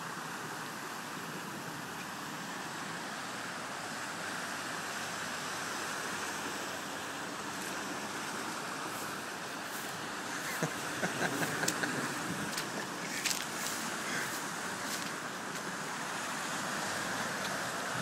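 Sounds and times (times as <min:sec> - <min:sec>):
tyres splashing through floodwater: 0:00.0 - 0:18.0.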